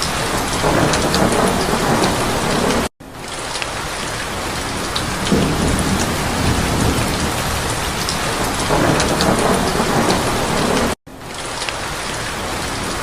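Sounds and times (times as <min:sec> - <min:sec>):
heavy rain: 0:00.0 - 0:13.0
raindrops ticking close by: 0:00.0 - 0:13.0.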